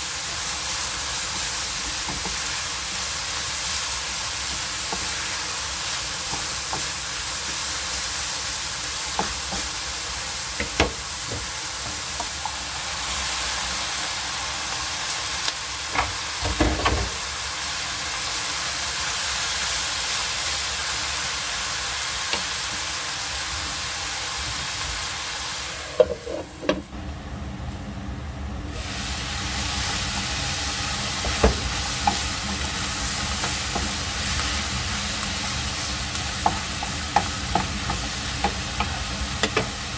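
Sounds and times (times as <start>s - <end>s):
food sizzling in a hot pan: 0.0s - 26.9s, 28.7s - 39.9s.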